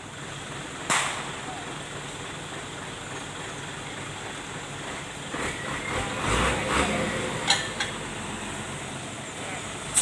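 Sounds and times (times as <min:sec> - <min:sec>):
road traffic noise: 0:00.0 - 0:10.0
vehicle engine low rumble: 0:00.0 - 0:10.0.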